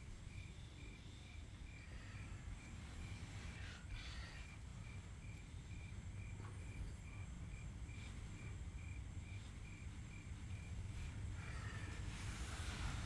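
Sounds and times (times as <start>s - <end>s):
cricket chirping: 0.0s - 13.0s
low steady hum: 0.0s - 13.0s.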